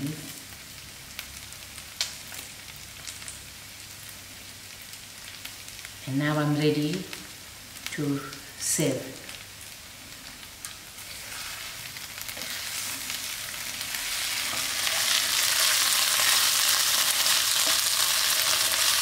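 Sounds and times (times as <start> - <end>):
giblets sizzling in oil: 0.0 - 19.0.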